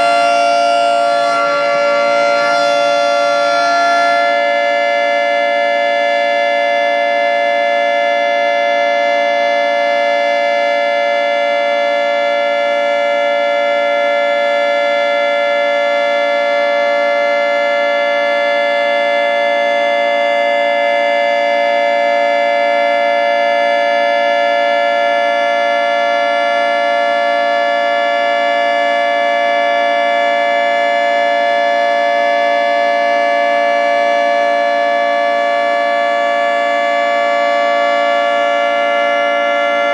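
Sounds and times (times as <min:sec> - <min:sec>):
outdoor warning siren chord: 0:00.0 - 0:39.9.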